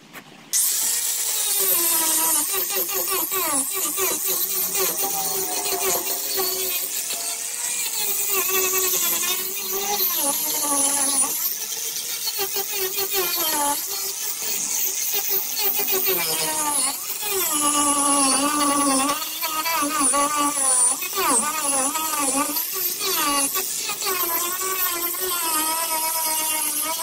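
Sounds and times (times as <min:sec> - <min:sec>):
electric grinder whining: 0:00.6 - 0:27.0.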